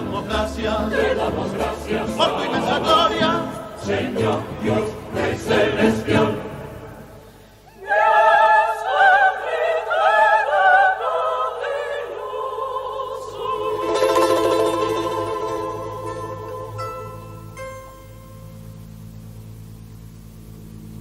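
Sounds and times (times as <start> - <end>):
choir singing: 0.0 - 17.7.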